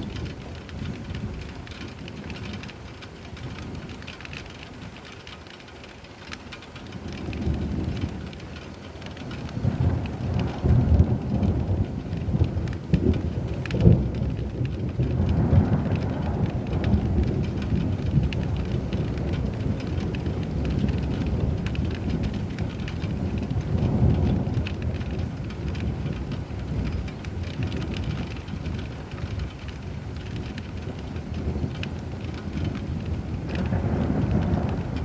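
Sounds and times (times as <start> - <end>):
rolling thunder rumble: 0.0 - 5.1, 6.6 - 35.0
steady rain: 0.0 - 35.0.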